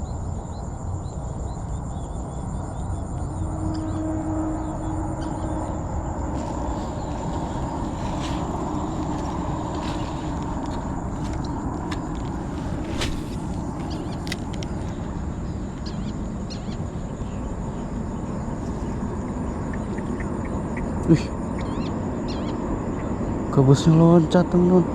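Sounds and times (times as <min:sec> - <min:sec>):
high-pitched insect trill: 0:00.0 - 0:24.9
low rumbling noise: 0:00.0 - 0:24.9.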